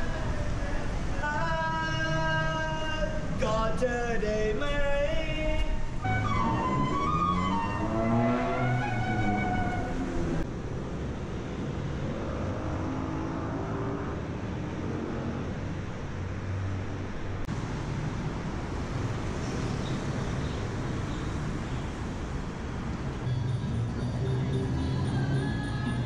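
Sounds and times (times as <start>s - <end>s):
city vehicle noise: 0.0s - 26.0s.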